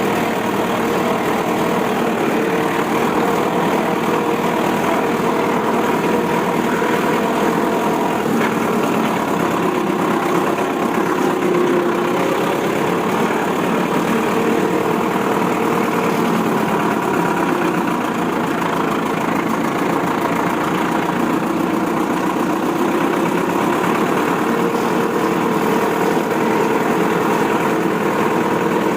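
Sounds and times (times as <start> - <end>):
heavy vehicle engine idling: 0.0 - 28.9.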